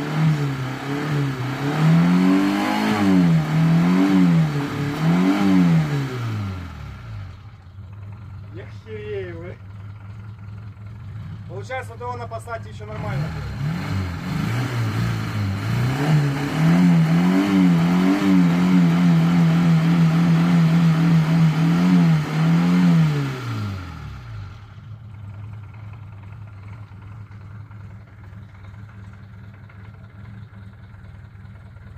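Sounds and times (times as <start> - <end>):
car engine revving and idling: 0.0 - 31.9.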